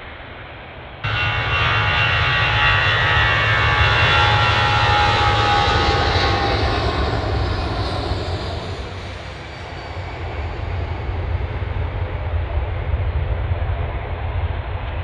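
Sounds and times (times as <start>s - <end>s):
jet engine whine: 0.0s - 15.0s
low rumble: 0.8s - 14.8s.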